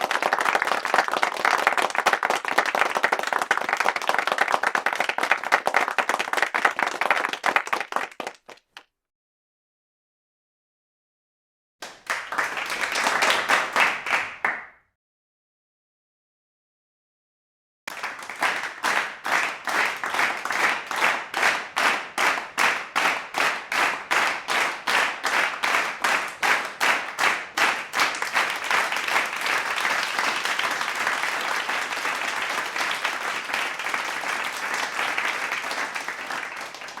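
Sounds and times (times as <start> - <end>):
crowd applause: 0.0 - 8.6, 12.1 - 14.6, 17.9 - 37.0
crowd clapping in rhythm: 0.0 - 8.9, 11.8 - 14.8, 17.9 - 37.0.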